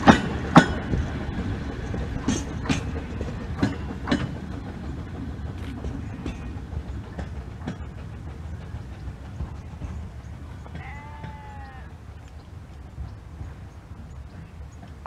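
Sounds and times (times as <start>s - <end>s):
train low rumble: 0.0s - 15.0s
train wheels clicking over rail joints: 0.0s - 15.0s.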